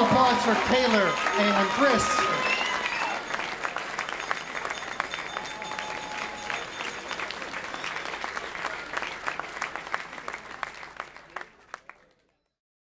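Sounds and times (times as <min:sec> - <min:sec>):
crowd applauding: 0:00.0 - 0:12.4.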